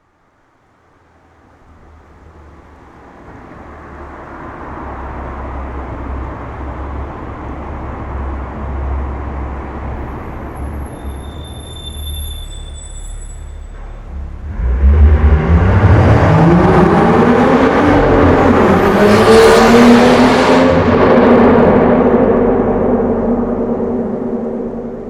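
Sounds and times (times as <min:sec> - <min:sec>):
car exhaust drone: 0:01.4 - 0:25.0.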